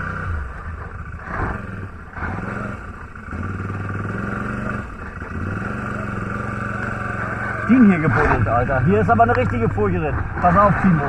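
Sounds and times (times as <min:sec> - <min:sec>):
quad engine revving: 0:00.0 - 0:11.0.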